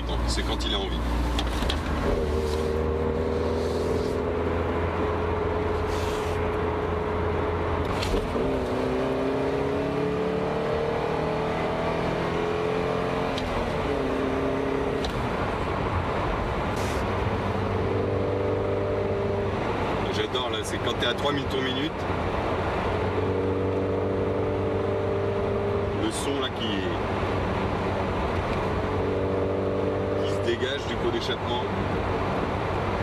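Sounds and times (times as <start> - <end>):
car engine accelerating through gears: 0.7 - 20.2, 22.1 - 33.0.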